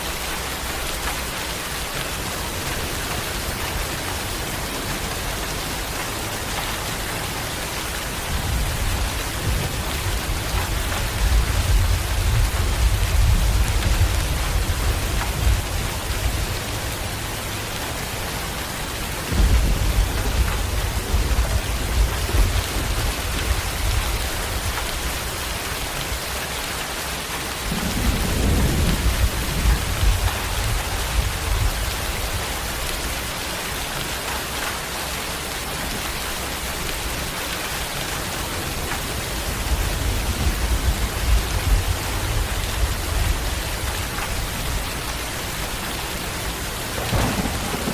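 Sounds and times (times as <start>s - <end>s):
heavy rain: 0.0s - 47.9s
thunder rumbling: 0.1s - 26.3s, 27.7s - 33.3s, 37.9s - 47.9s.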